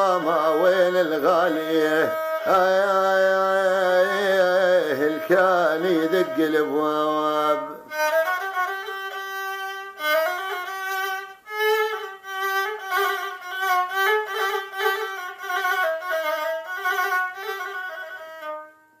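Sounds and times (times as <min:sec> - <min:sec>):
bowed string instrument melody: 0:00.0 - 0:19.0.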